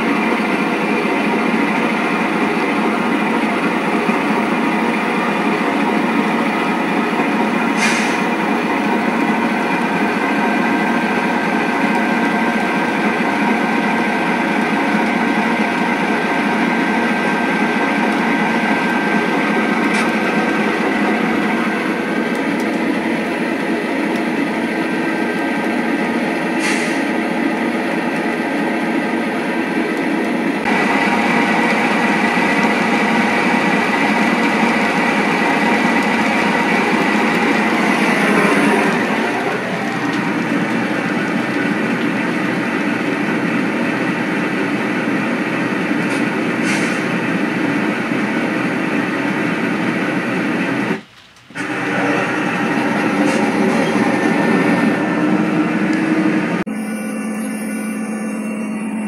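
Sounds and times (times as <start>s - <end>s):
diesel engine drone: 0.0s - 59.0s
rumble of rolling train cars: 0.0s - 59.0s.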